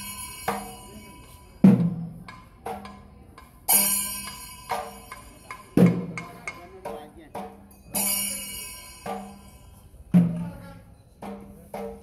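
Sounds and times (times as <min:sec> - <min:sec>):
ringing metallic clashes: 0:00.0 - 0:12.0.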